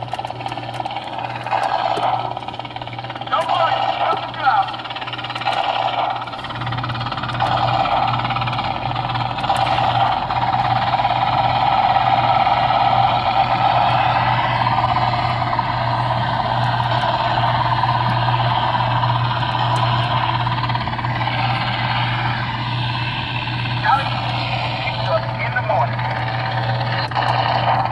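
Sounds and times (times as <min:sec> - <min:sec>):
engine-like drone: 0:00.0 - 0:27.9
kiddie ride low hum: 0:00.0 - 0:27.9.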